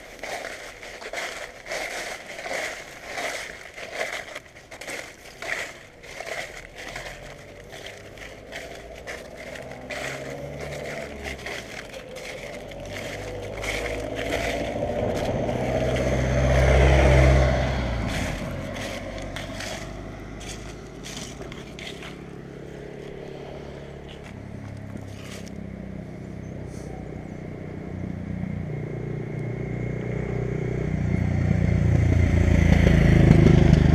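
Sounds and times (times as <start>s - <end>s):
footsteps crunching dry leaves: 0.0s - 27.7s
car passing: 0.0s - 33.9s
vehicle approaching: 0.0s - 33.9s.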